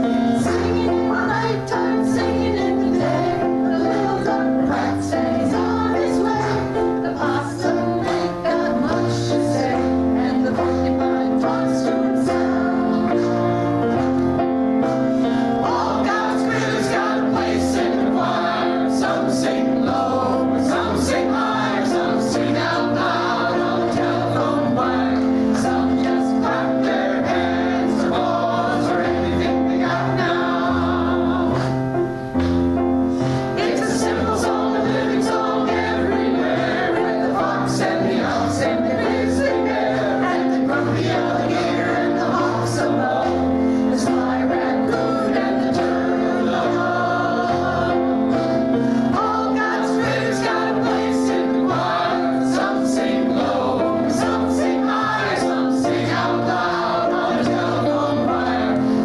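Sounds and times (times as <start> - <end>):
church choir singing: 0.0 - 59.0
instrumental accompaniment: 0.0 - 59.0.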